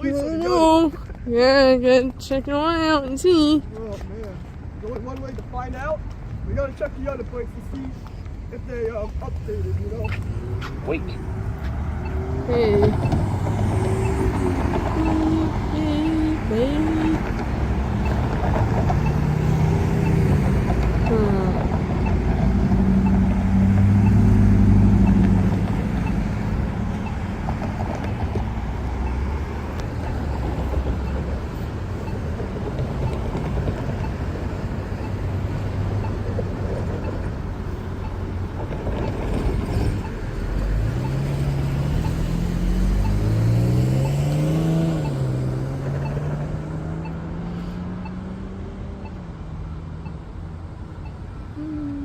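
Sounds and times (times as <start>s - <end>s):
road traffic noise: 0.0s - 52.0s
vehicle accelerating: 9.1s - 52.0s.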